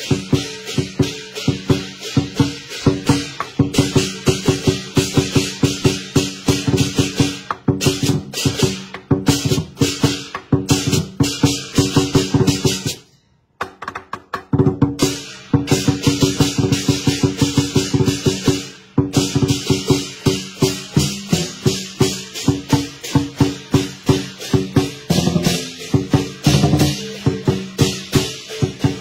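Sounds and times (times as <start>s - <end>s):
drum beaten in fast rolls: 0.0s - 13.0s, 14.2s - 29.0s
hand cymbals crashing: 0.0s - 13.6s, 14.8s - 29.0s.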